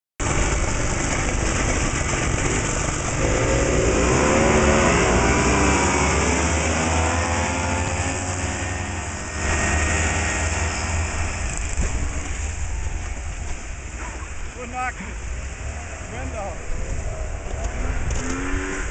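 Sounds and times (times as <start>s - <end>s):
snowmobile engines revving: 0.2s - 18.9s.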